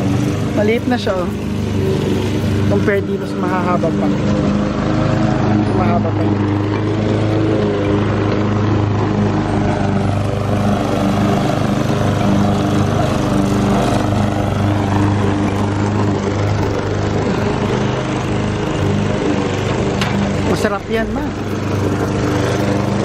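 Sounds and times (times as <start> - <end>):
lawn mower cutting grass: 0.0 - 23.0.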